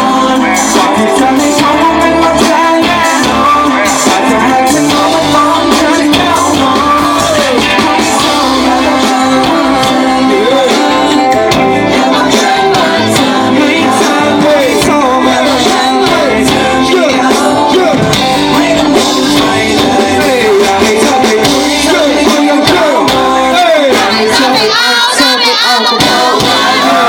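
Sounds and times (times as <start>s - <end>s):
electric guitar: 0.0s - 24.7s
amplified singing: 0.0s - 27.0s
bass guitar: 0.0s - 27.0s
drums: 0.0s - 27.0s.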